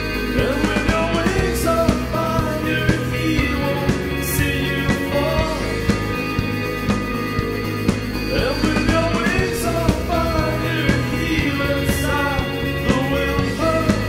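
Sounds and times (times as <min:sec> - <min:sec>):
melodic lead line: 0:00.0 - 0:14.0
rock band music: 0:00.0 - 0:14.0.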